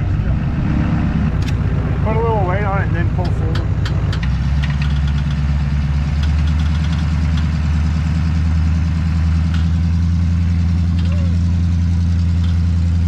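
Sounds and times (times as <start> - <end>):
truck engines droning: 0.0 - 13.0.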